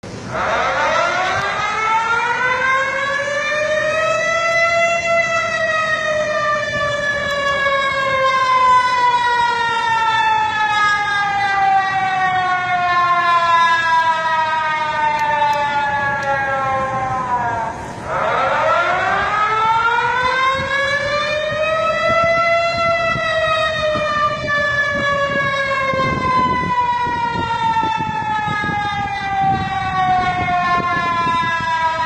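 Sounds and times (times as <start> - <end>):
warning siren wailing: 0.0 - 32.0.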